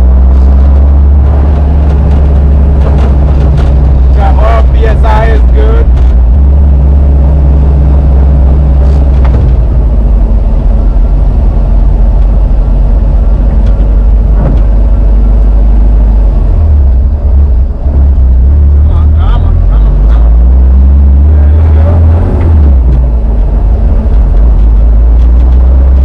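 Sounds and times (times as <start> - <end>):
car engine running rough: 0.0 - 26.0.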